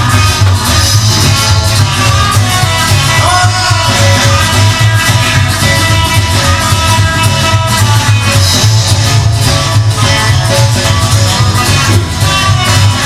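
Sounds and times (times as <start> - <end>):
electric guitar: 0.0 - 13.0
rock and roll instrumental: 0.0 - 13.0.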